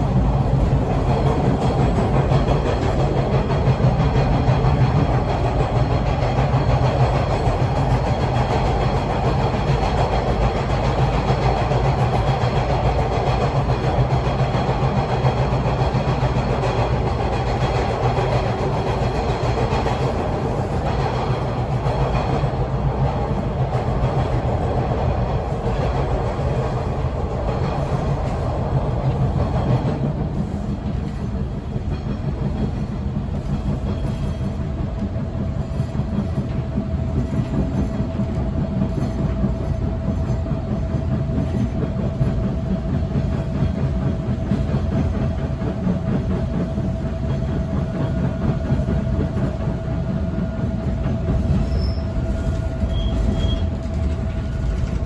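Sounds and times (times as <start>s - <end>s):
subway car rattling and rumbling: 0.0s - 55.0s.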